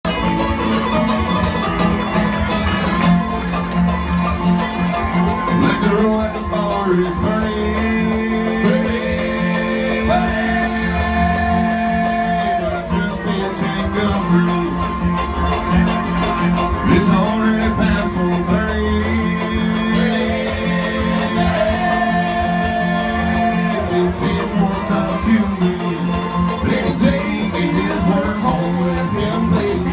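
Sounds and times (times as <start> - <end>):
banjo picking: 0.0 - 29.9
bluegrass band playing: 0.0 - 29.9
guitar picking: 0.0 - 29.9.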